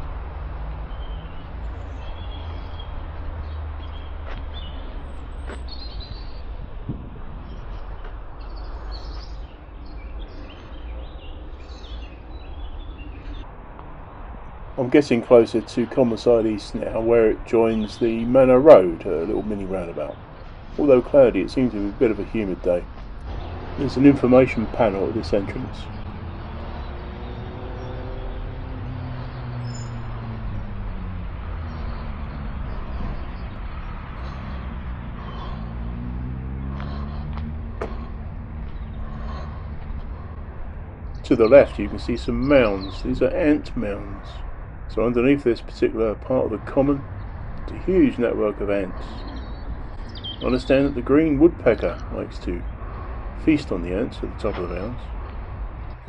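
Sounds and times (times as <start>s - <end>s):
birds chirping and trilling: 0.0s - 56.0s
vehicle engines passing: 0.0s - 56.0s
steady low rumble: 0.9s - 26.6s, 29.9s - 56.0s.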